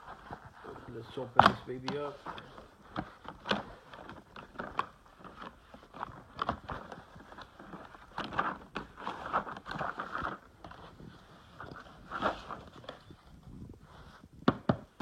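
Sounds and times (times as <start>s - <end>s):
packaging crinkling and rustling: 0.0s - 14.1s.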